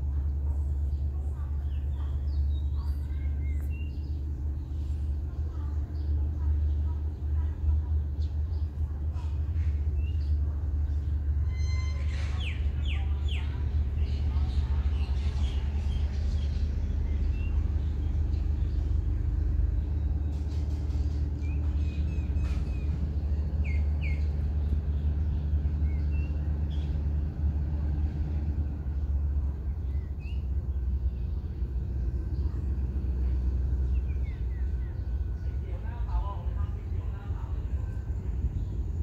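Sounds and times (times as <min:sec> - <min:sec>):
birds chirping: 0:00.0 - 0:39.0
steady low rumble: 0:00.0 - 0:39.0.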